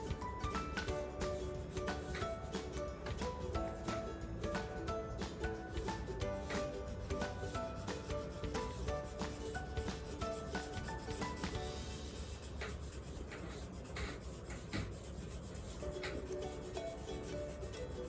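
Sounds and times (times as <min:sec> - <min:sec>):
light background music: 0:00.0 - 0:18.0
colouring tool rubbing on paper: 0:00.7 - 0:03.9, 0:06.0 - 0:18.0.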